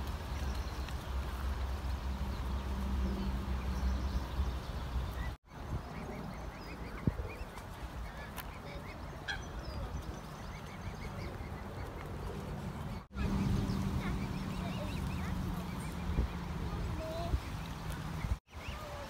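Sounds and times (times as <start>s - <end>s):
cygnets peeping: 0.0s - 19.0s.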